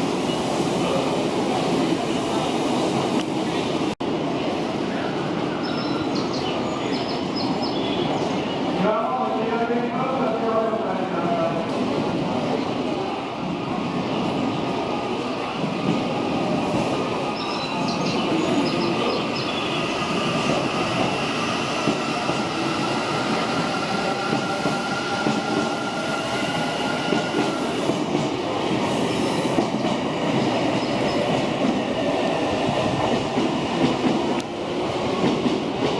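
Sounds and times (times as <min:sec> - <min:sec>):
train rolling rumble: 0:00.0 - 0:35.9.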